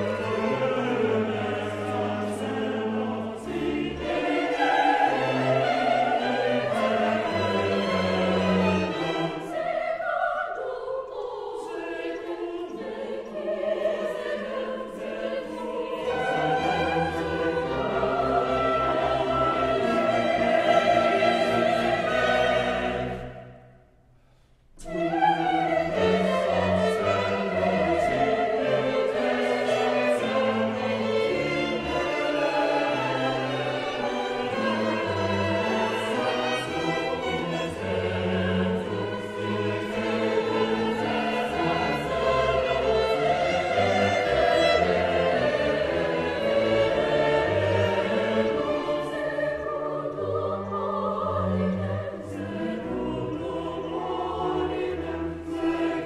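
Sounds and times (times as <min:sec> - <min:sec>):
mixed choir singing: 0:00.0 - 0:23.6, 0:24.8 - 0:56.0
string chamber orchestra: 0:00.0 - 0:23.7, 0:24.5 - 0:56.0.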